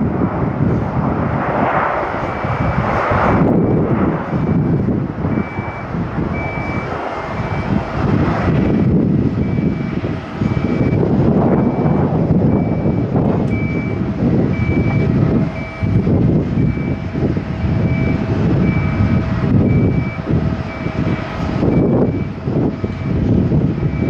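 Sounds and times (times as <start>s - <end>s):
jet engines rumbling: 0.0s - 24.0s
wind on microphone: 0.0s - 24.0s
reversing alarm beeping: 2.2s - 2.8s, 3.4s - 8.1s, 8.7s - 24.0s.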